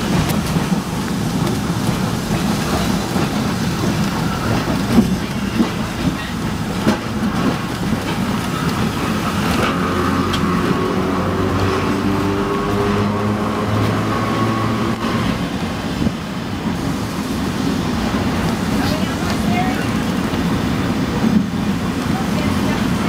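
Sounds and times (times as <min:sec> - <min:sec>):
streetcar wheels rumbling on rails: 0:00.0 - 0:23.0
wheels clacking over rail joints: 0:00.0 - 0:23.0.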